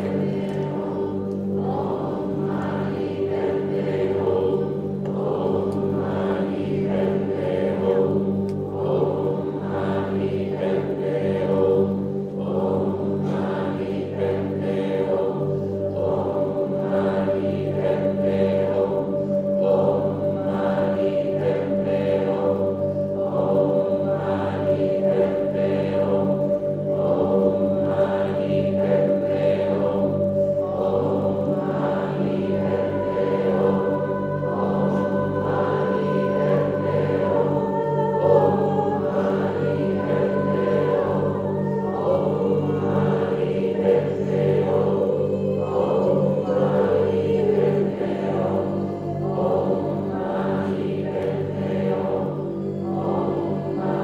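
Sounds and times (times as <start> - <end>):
held drone tones: 0.0 - 54.0
voices singing slow chant: 0.0 - 54.0.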